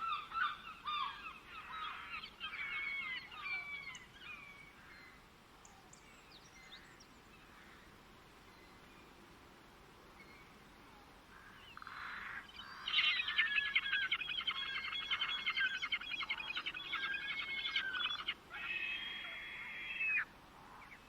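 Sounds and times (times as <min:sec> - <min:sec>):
songbird singing: 0:00.0 - 0:09.3, 0:10.0 - 0:21.0.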